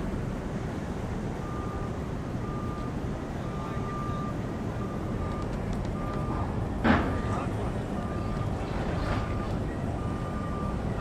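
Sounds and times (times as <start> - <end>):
urban vehicle engine rumble: 0.0 - 11.0.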